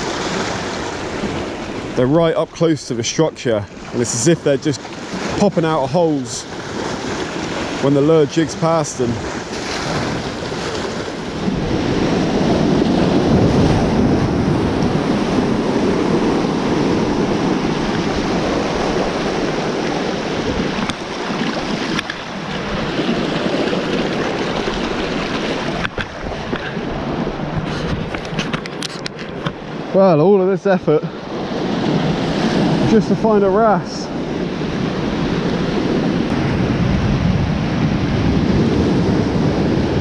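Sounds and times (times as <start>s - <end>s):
surf breaking over rocks: 0.0s - 40.0s
wind gusts on microphone: 0.0s - 40.0s.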